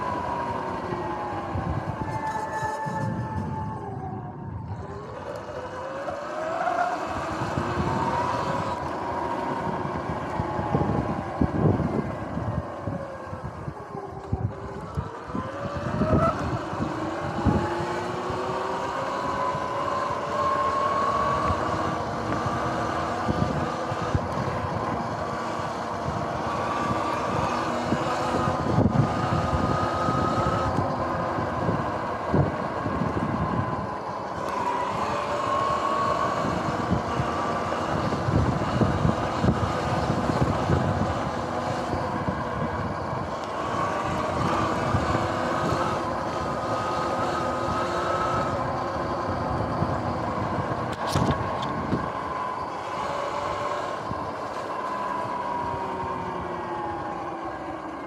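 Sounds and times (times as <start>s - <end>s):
wind buffeting microphone: 0.0s - 6.2s, 7.0s - 58.0s
electric motor whining: 0.0s - 58.0s.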